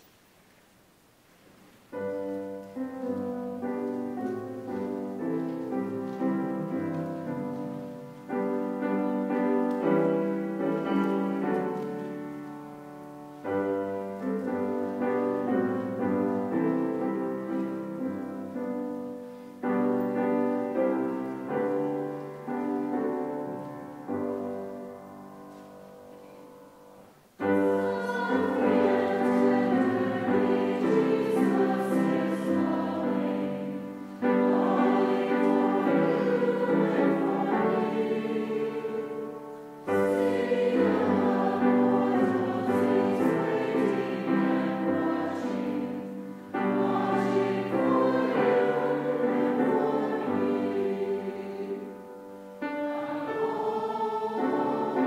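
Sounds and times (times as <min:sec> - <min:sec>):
piano playing hymn chords: 0:01.9 - 0:55.0
congregation singing a hymn: 0:02.0 - 0:55.0.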